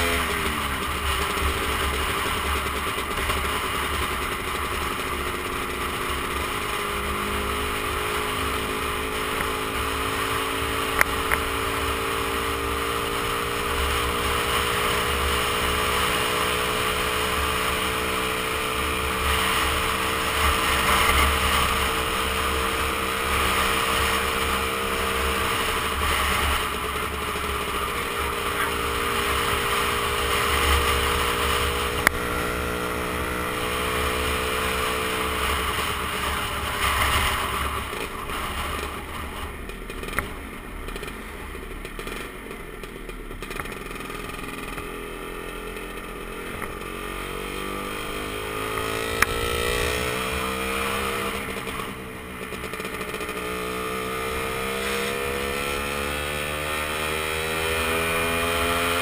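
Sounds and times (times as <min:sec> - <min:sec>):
scooter engine cruising: 0:00.0 - 0:59.0.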